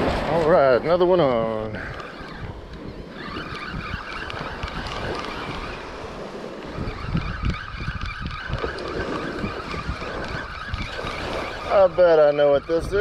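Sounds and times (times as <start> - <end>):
surf: 0.0 - 13.0
wind on microphone: 0.0 - 13.0
fishing reel gears whirring: 0.9 - 13.0.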